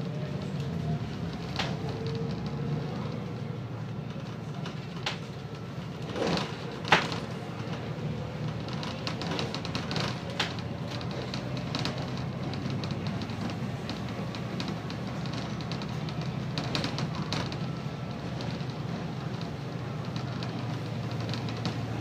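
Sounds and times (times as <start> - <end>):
bus body rattling: 0.0 - 22.0
bus diesel engine running: 0.0 - 22.0.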